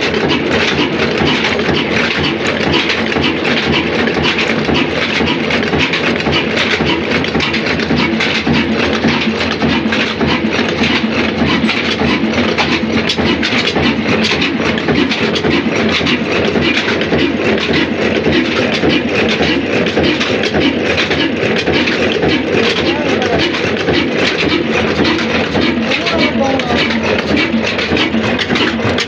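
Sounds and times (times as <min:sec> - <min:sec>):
diesel engine running: 0:00.0 - 0:29.0
valve gear clatter: 0:00.0 - 0:29.0.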